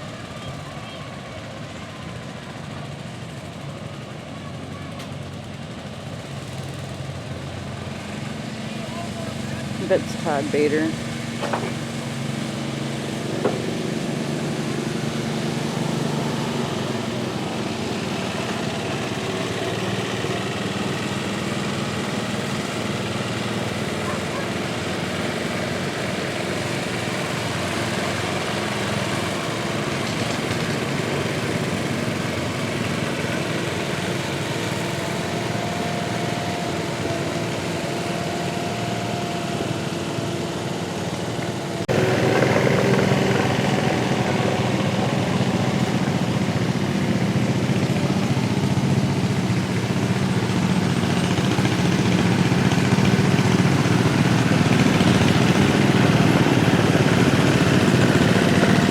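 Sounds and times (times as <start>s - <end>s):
tractor engine at high revs: 0.0s - 58.9s.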